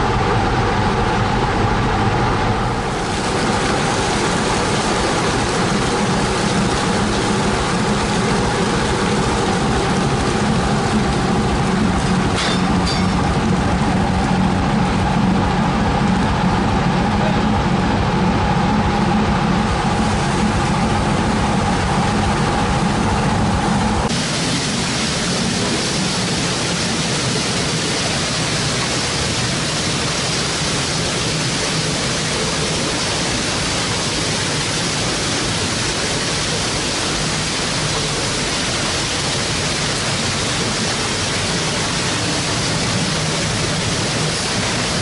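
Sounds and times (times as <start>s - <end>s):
engine and machinery drone: 0.0s - 45.0s.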